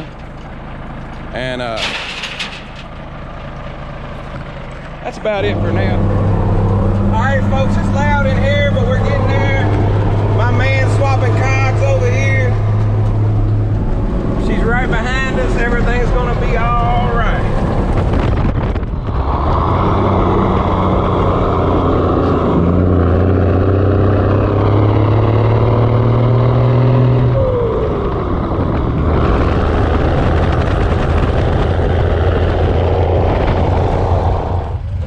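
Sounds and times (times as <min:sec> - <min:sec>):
road noise: 0:00.0 - 0:35.0
truck engine accelerating: 0:00.0 - 0:35.0.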